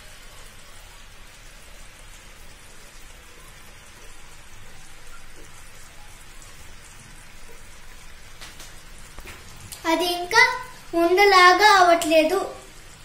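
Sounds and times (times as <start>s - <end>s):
syrup boiling in a pan: 0.0s - 13.0s.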